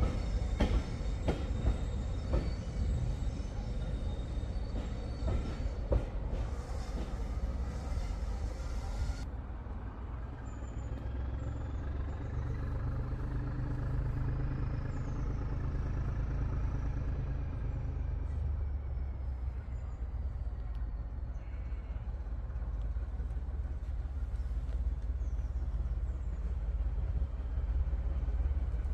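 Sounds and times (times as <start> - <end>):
diesel locomotive engine humming: 0.0 - 28.9.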